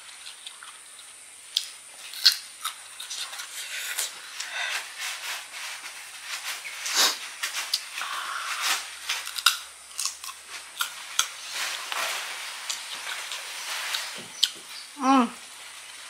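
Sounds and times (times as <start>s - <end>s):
crunchy fruit chewing: 0.0s - 16.0s.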